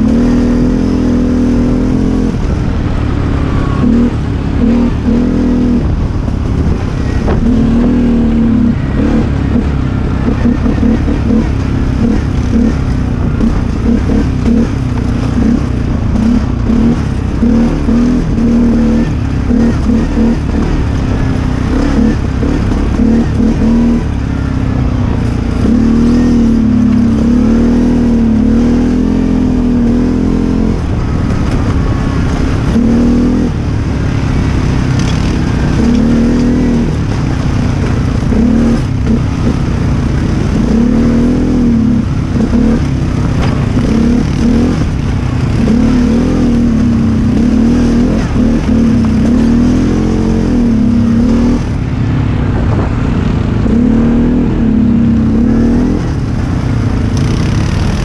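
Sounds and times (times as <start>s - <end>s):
atv engine revving: 0.0s - 58.0s
low rumble: 0.0s - 58.0s.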